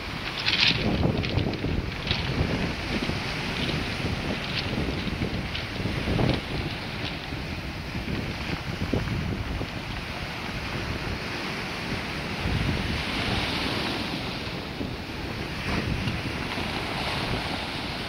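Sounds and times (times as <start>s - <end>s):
surf breaking on cobble beach: 0.0s - 18.0s
wind rumbling on microphone: 0.0s - 18.0s.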